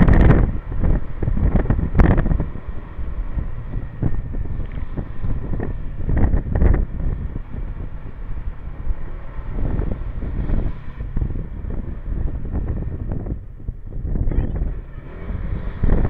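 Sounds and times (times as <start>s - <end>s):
scooter engine running: 0.0s - 16.0s
tyres on wet road: 0.0s - 16.0s
wind buffeting microphone: 0.0s - 16.0s.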